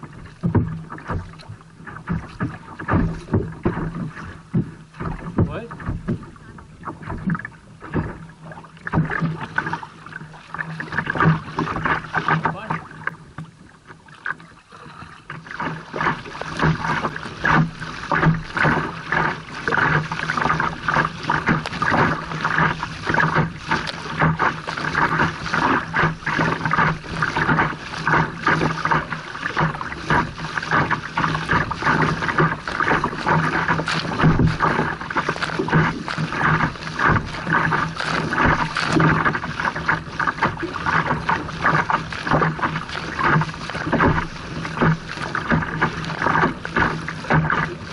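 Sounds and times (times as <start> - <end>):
water slapping against kayak: 0.0 - 47.9.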